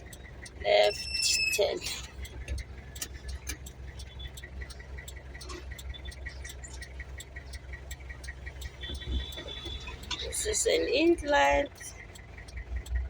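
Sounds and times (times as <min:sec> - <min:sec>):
fast even ticking: 0:00.0 - 0:13.0
small clicks and rattles: 0:00.0 - 0:13.0
truck engine rumbling: 0:00.0 - 0:13.0.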